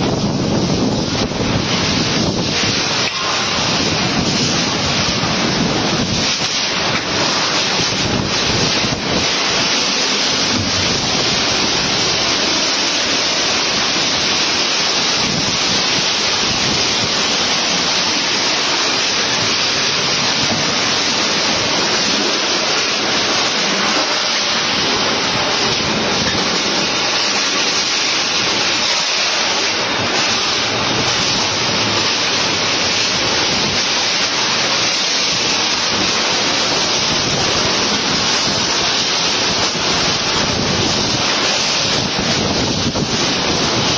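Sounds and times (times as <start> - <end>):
wind gusts buffeting microphone: 0.0 - 18.2, 18.9 - 43.9
strong wind rushing: 0.0 - 43.9.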